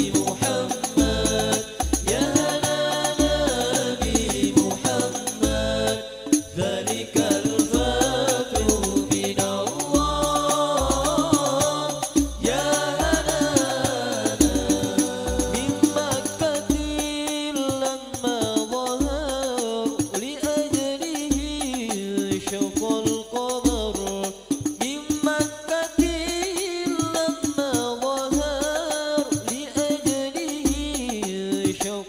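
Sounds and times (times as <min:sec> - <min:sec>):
frame drums with jingles: 0:00.0 - 0:32.0
men singing in unison: 0:00.0 - 0:32.0.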